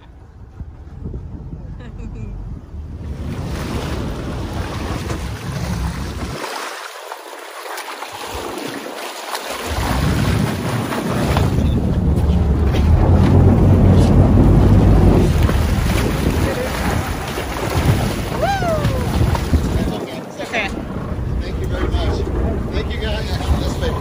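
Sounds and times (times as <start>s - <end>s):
wind buffeting microphone: 0.0s - 6.4s, 9.7s - 24.0s
rushing water: 2.8s - 24.0s.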